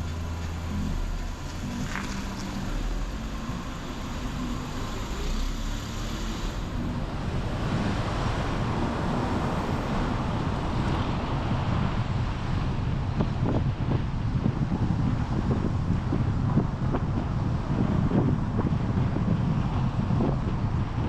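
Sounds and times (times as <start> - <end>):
road and wind noise: 0.0 - 21.0
vehicle engine hum: 0.0 - 21.0.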